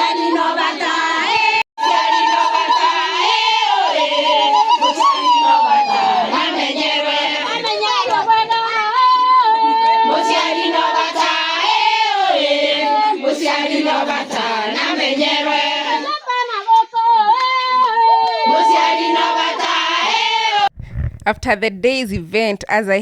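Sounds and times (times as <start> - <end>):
voices singing long notes: 0.0 - 20.7.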